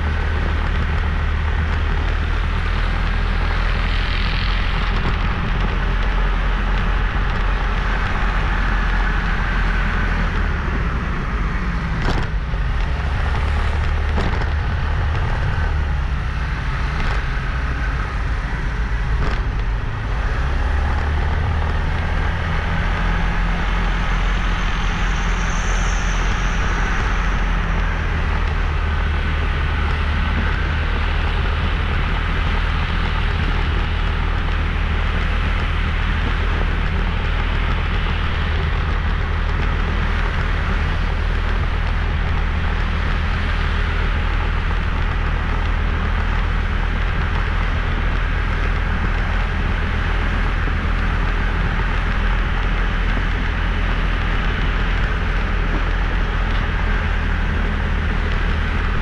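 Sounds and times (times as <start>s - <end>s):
motorbike engine running: 0.0s - 59.0s
wind buffeting microphone: 0.0s - 59.0s.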